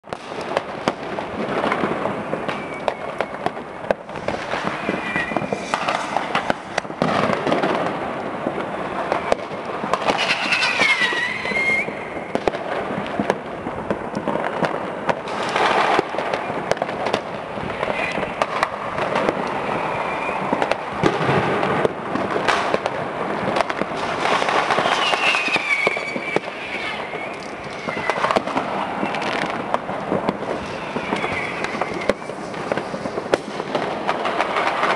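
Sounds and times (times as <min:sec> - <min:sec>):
firecracker bangs and crackle: 0:00.0 - 0:34.9
whistling rockets falling in pitch: 0:00.1 - 0:12.9, 0:14.2 - 0:34.9.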